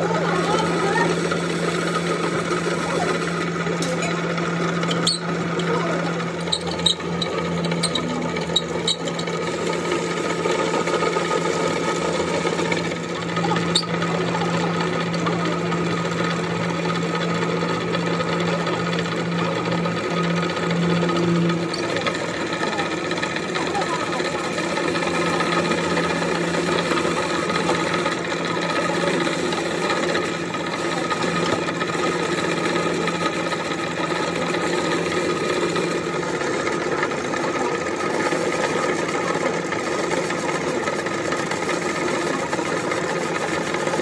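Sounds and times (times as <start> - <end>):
drill boring into steel: 0.0 - 44.0.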